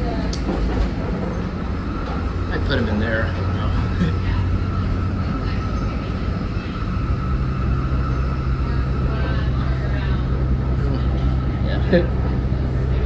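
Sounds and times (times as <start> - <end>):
train engine running hum: 0.0 - 13.0.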